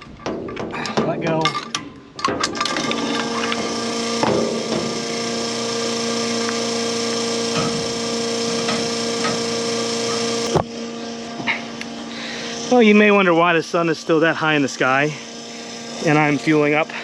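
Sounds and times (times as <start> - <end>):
fuel pump humming: 0.0 - 17.0.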